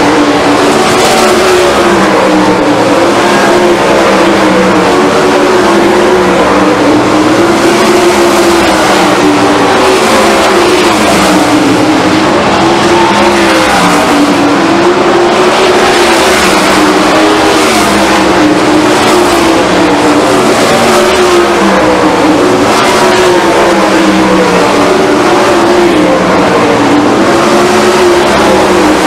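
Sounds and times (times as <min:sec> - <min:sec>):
racing car engines: 0:00.0 - 0:29.0.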